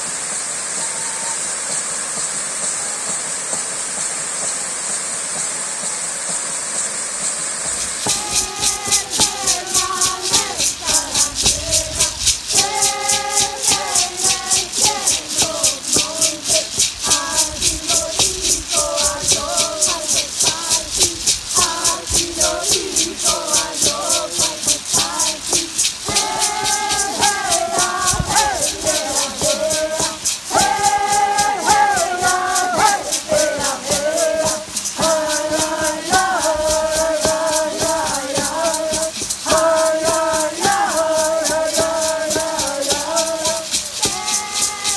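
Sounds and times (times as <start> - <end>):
rattles shaken: 0.0 - 44.9
voices chanting: 7.4 - 44.9.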